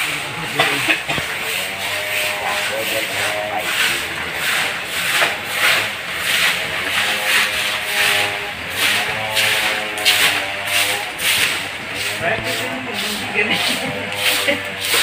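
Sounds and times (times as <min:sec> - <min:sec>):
dry leaves scraping and rustling: 0:00.2 - 0:15.0.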